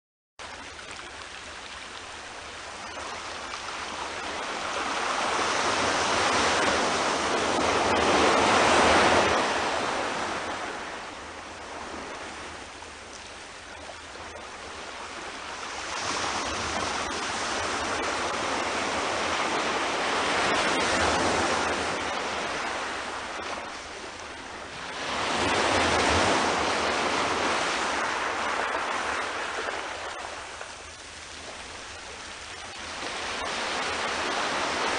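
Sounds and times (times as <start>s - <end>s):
sea waves breaking on shore: 0.4s - 34.9s.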